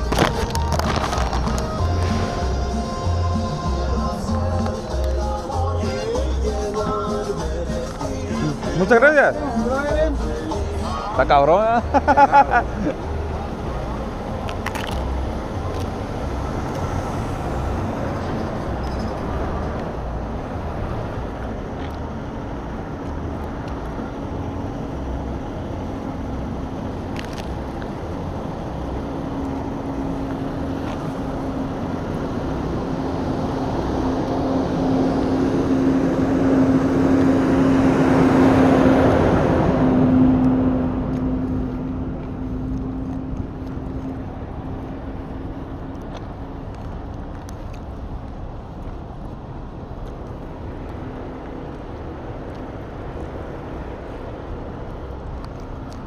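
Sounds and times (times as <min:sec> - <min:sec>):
vehicle passing by: 0:00.0 - 0:46.8
traffic noise: 0:00.0 - 0:56.0.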